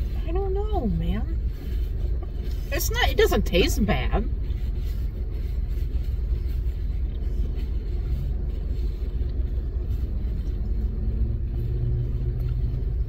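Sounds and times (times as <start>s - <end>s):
car engine idling: 0.0s - 13.0s
faint rustles: 0.0s - 13.0s.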